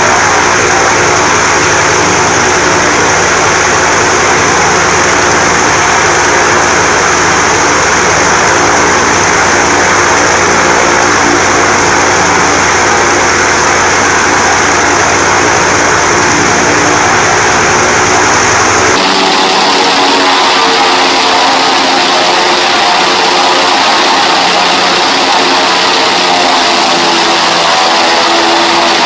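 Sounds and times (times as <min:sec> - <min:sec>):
radial aircraft engine running: 0:00.0 - 0:29.0.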